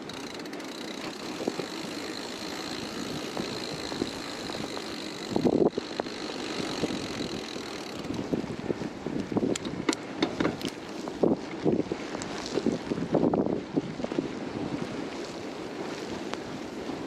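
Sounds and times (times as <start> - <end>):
bike rolling on snow: 0.0 - 17.0
wind noise: 0.0 - 17.0.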